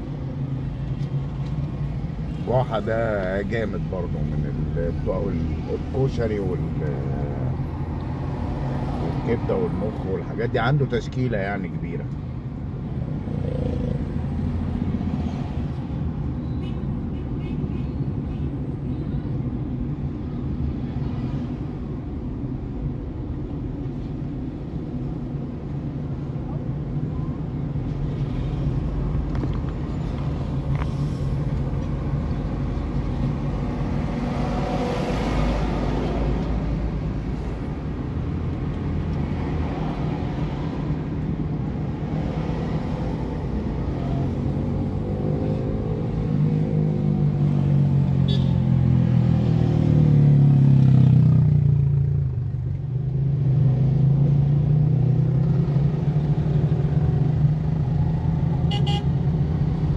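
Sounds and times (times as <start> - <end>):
road noise inside car: 0.0 - 59.9.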